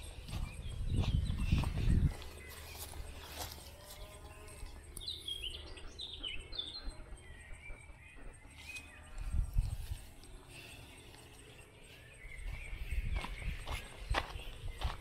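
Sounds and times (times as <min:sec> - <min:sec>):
outdoor background noise: 0:00.0 - 0:15.0
songbirds chirping: 0:00.0 - 0:15.0.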